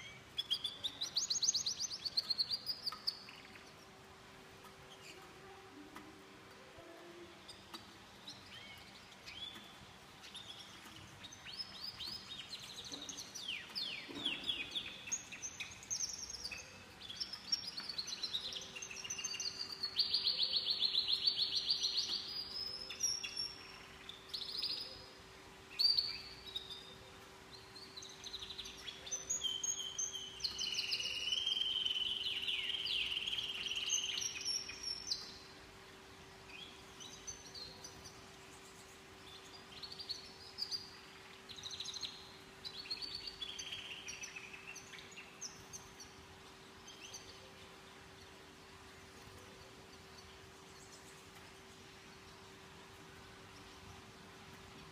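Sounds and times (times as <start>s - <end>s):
canaries singing: 0.0s - 54.9s
faint steady hum: 0.0s - 54.9s.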